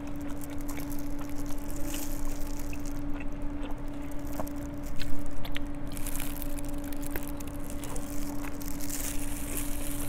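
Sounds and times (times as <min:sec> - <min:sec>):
steady low hum: 0:00.0 - 0:10.0
wet chewing and biting: 0:00.0 - 0:10.0.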